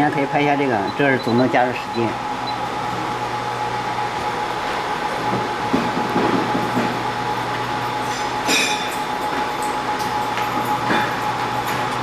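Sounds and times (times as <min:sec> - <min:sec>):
fan and blower whine: 0:00.0 - 0:12.0.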